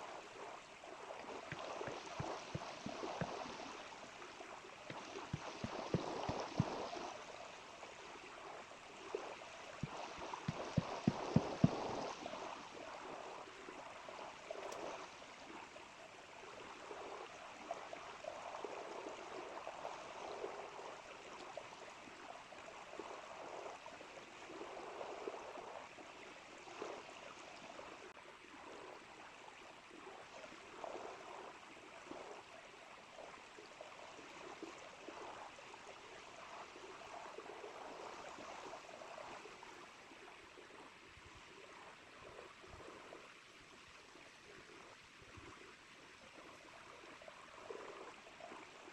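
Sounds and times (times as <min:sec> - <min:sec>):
small river flowing and gurgling: 0:00.0 - 0:48.9.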